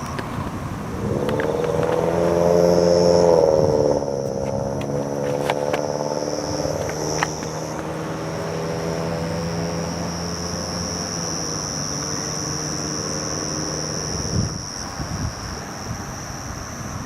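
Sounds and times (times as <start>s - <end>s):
crickets chirping: 0.0s - 17.0s
vehicle engine running: 0.0s - 17.0s.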